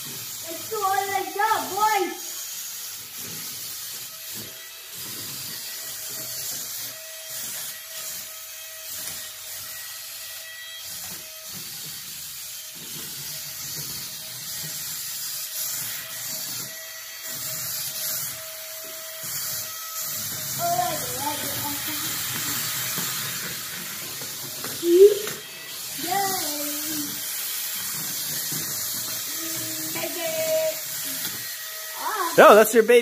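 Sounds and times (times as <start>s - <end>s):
suction fan whirring: 0.0s - 33.0s
toy car motors and wheels rolling: 0.0s - 33.0s.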